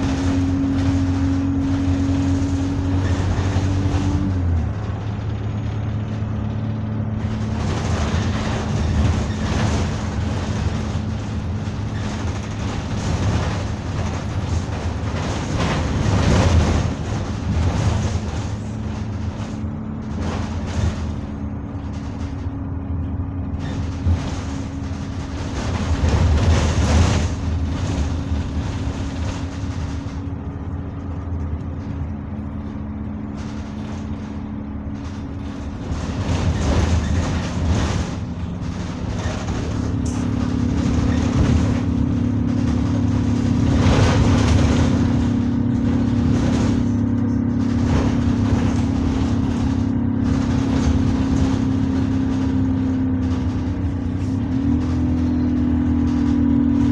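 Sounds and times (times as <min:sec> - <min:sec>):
bus diesel engine humming: 0:00.0 - 0:56.9
road noise: 0:00.0 - 0:56.9.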